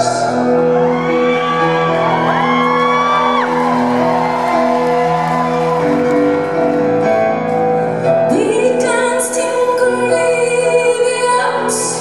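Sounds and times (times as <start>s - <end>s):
held keyboard chords: 0.0s - 12.0s.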